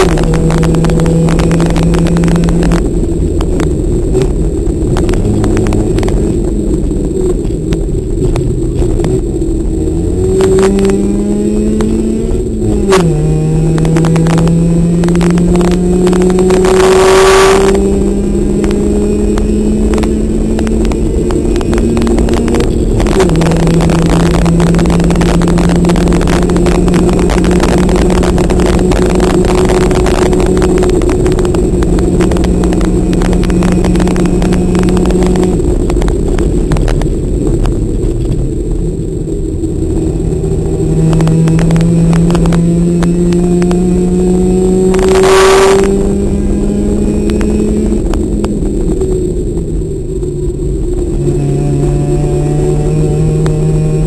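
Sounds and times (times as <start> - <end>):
car engine running hard: 0.0 - 54.0.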